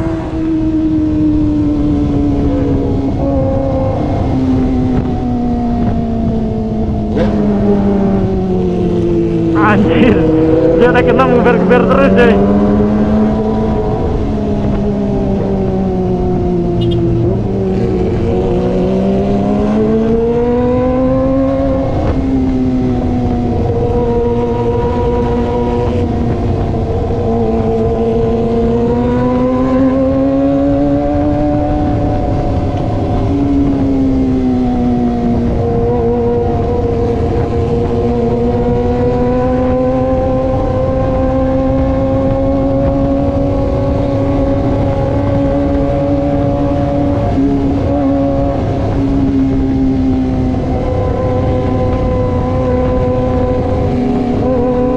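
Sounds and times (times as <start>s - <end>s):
motorcycle engine revving: 0.0s - 54.9s
wind noise: 0.0s - 54.9s.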